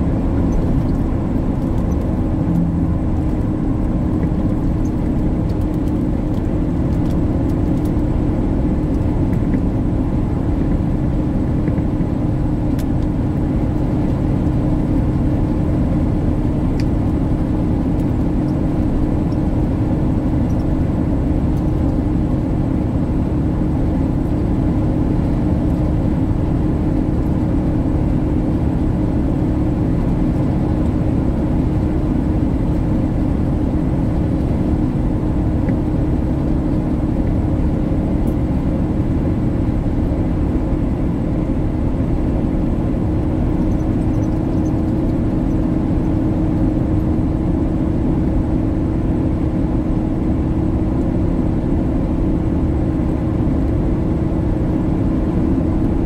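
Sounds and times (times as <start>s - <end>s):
constant low hum: 0.0s - 56.0s
truck engine and road rumble: 0.0s - 56.0s.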